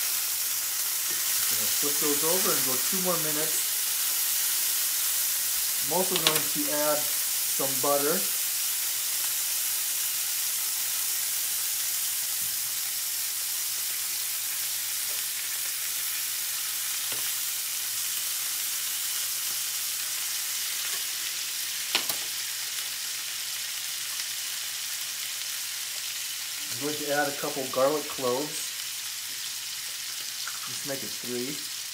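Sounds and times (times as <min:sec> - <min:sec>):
steaks sizzling in a skillet: 0:00.0 - 0:31.9.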